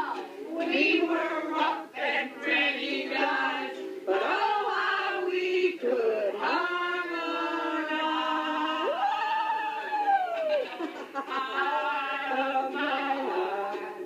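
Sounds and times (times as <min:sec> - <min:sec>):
group singing unaccompanied: 0:00.0 - 0:09.0, 0:11.1 - 0:14.0.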